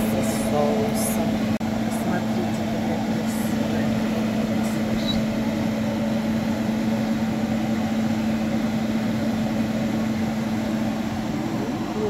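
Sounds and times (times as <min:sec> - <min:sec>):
exhaust fan humming: 0:00.0 - 0:12.0.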